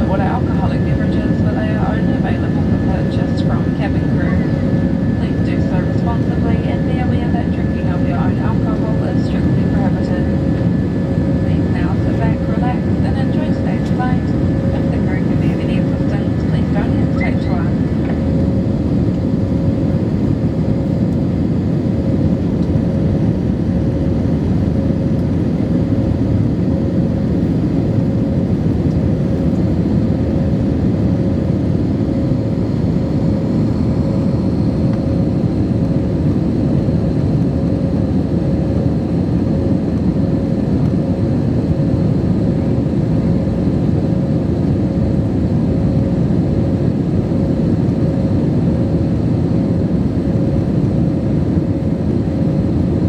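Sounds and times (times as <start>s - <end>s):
constant cabin hum: 0.0s - 53.0s
jet engine rumble: 0.0s - 53.0s.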